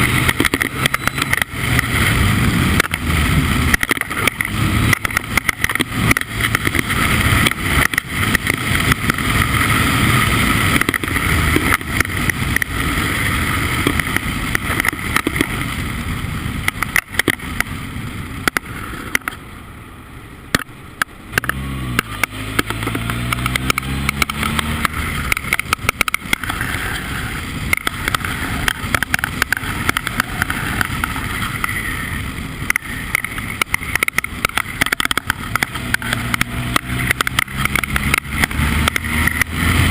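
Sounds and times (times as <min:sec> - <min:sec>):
race car engine: 0:00.0 - 0:39.9
rushing and crackling noise: 0:00.0 - 0:39.9.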